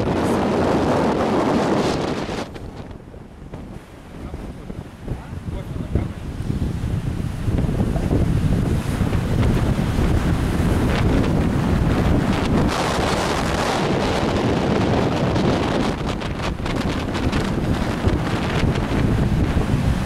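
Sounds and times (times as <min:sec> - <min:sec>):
sea surf washing: 0:00.0 - 0:20.0
wind buffeting microphone: 0:00.0 - 0:20.0.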